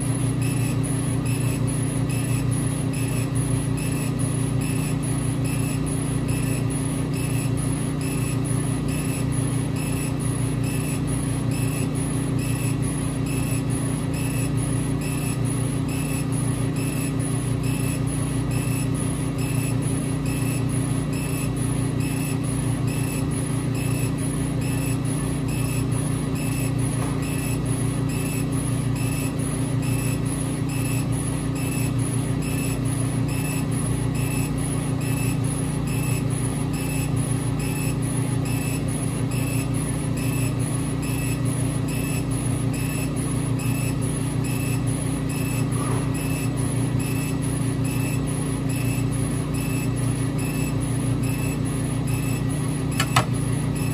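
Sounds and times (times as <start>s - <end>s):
laser cutter drone: 0.0s - 53.9s.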